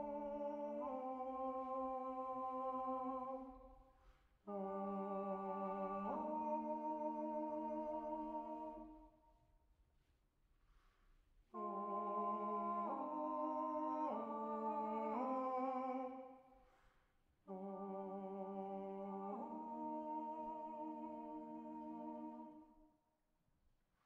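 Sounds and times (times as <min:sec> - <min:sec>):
two voices singing in harmony: 0:00.0 - 0:09.2, 0:11.5 - 0:16.5, 0:17.4 - 0:22.7.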